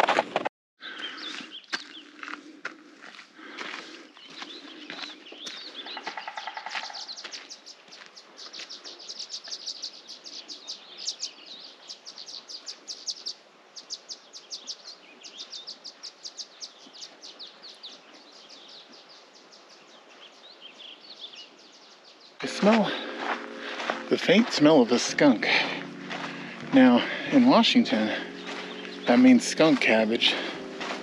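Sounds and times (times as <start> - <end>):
birds chirping: 0.8 - 2.5, 3.2 - 31.0.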